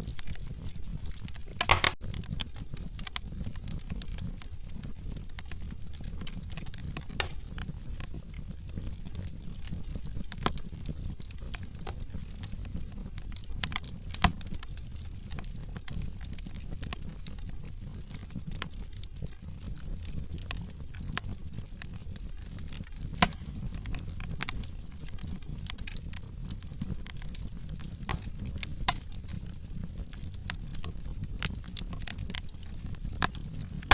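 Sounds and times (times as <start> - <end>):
logs crackling in fireplace: 0.0 - 33.9
loud fire pops: 0.1 - 33.9.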